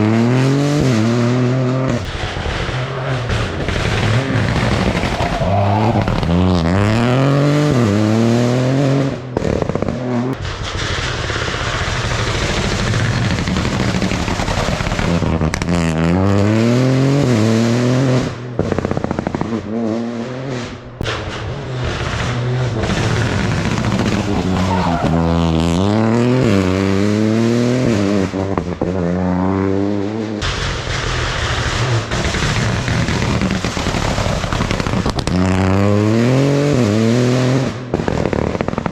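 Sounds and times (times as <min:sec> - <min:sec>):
rally car engines at full throttle: 0:00.0 - 0:38.9
rough noisy rush: 0:01.8 - 0:09.7, 0:10.3 - 0:28.4, 0:30.4 - 0:38.9.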